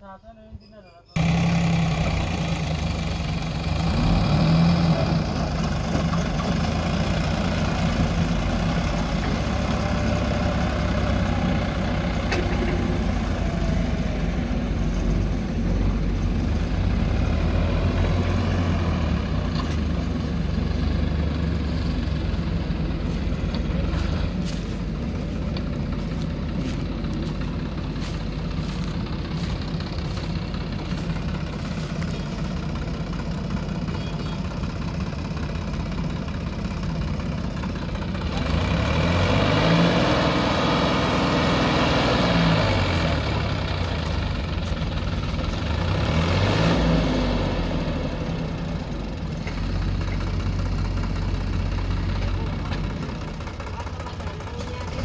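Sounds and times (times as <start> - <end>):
diesel engines running: 1.1 - 55.0.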